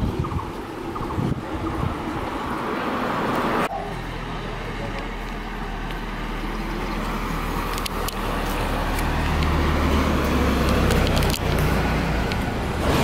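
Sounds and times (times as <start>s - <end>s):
road traffic noise: 0.0s - 13.0s
truck engine rumble: 0.0s - 13.0s.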